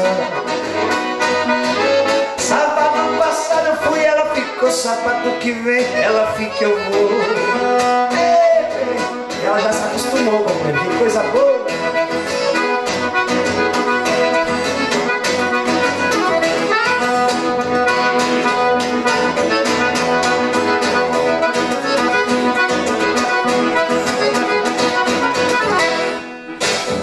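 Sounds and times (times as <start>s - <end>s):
accordion playing: 0.0s - 27.0s.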